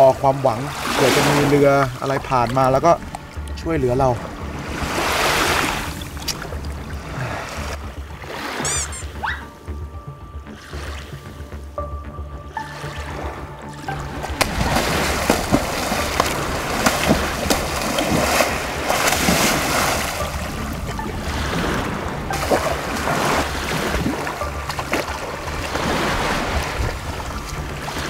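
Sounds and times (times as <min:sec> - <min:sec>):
sea waves washing on beach: 0:00.0 - 0:09.1, 0:12.6 - 0:28.0
wind rumbling on microphone: 0:00.0 - 0:10.0, 0:14.1 - 0:28.0.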